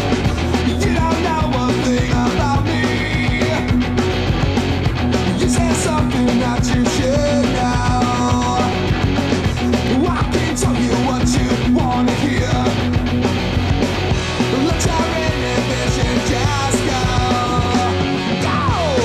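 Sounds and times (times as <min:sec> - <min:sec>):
loud punk rock music: 0:00.0 - 0:19.0.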